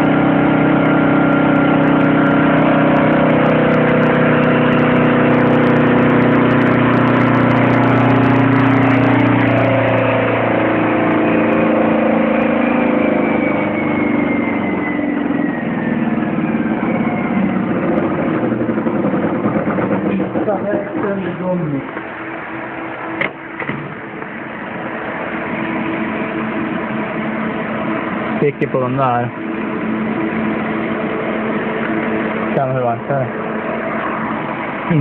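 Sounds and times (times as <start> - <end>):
small engine running at high revs: 0.0 - 35.0.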